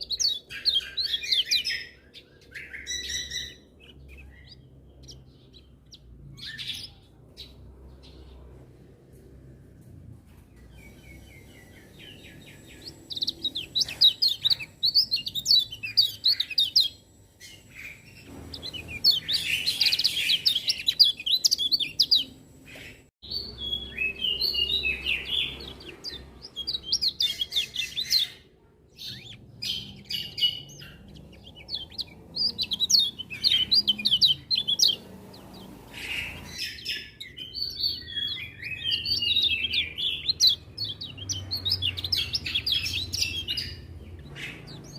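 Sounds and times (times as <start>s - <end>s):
bird twittering song: 0.0s - 8.7s, 10.4s - 44.9s.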